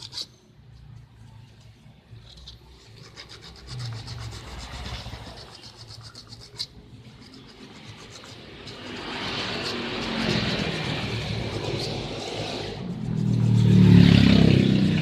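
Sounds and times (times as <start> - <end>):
sandpaper rubbing on metal: 0.0 - 0.4, 2.2 - 14.0.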